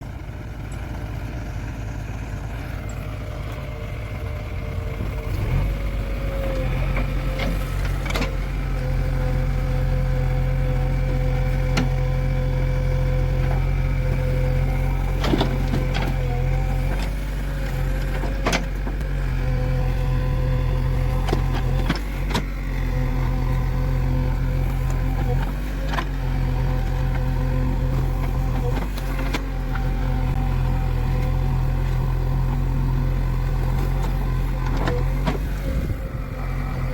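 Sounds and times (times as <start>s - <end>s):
heavy machine engine running: 0.0s - 36.9s
motor humming: 2.4s - 36.9s.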